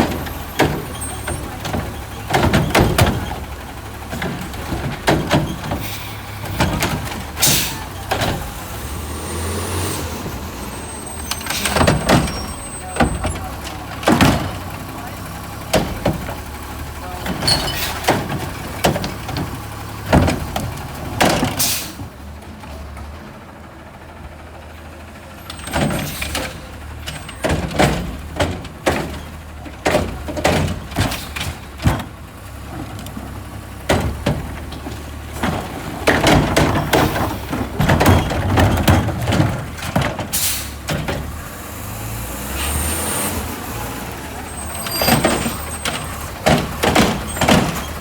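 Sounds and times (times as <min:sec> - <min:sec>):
garbage truck engine running: 0:00.0 - 0:48.0
trash cart clanking against metal: 0:00.0 - 0:48.0.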